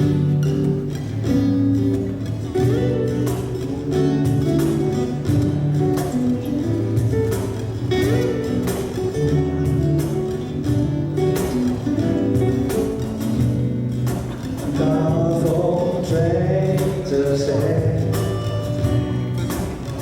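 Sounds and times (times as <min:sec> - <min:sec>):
percussive hits: 0:00.0 - 0:16.2
bass: 0:00.0 - 0:20.0
strummed guitars: 0:00.0 - 0:20.0.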